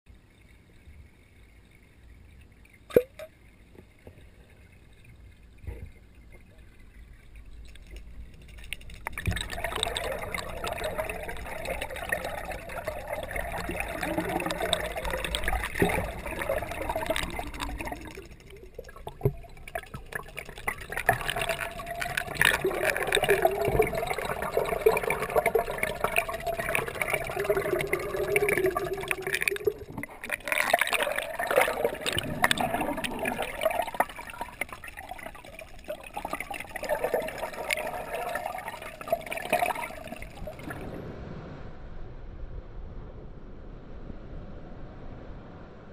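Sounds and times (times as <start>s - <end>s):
muffled underwater water sloshing: 0.1s - 45.9s.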